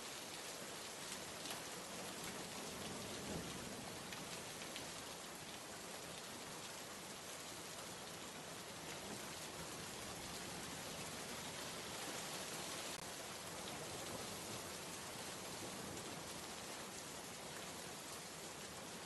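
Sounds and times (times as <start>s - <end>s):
rainfall hiss: 0.0s - 19.0s.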